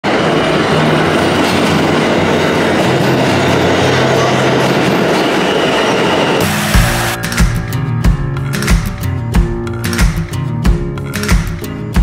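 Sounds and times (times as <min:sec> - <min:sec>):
subway train rumbling on rails: 0:00.0 - 0:10.4.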